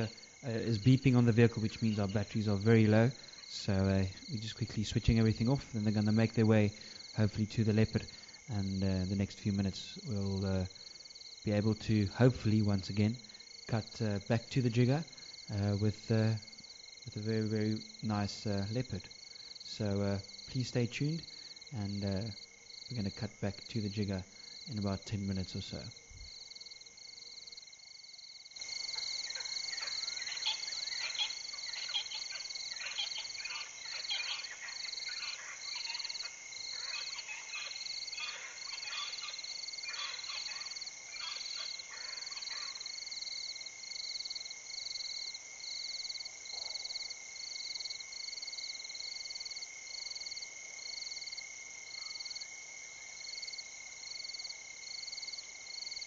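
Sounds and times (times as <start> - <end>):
frogs calling: 0.0 - 56.0
insects trilling: 0.0 - 56.0.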